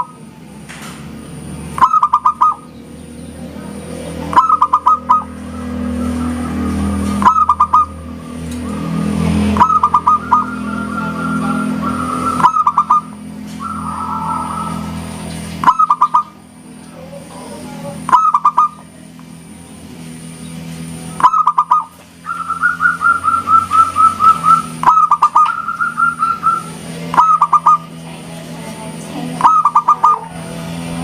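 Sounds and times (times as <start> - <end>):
dove cooing: 1.6 - 2.8, 3.6 - 16.5, 17.1 - 19.0, 21.1 - 28.2, 29.2 - 31.0.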